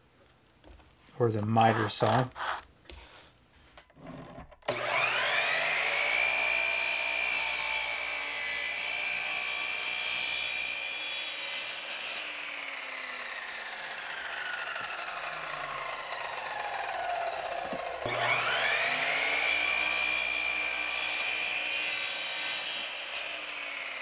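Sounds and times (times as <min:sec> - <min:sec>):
miter saw cutting plywood: 0:04.0 - 0:24.0.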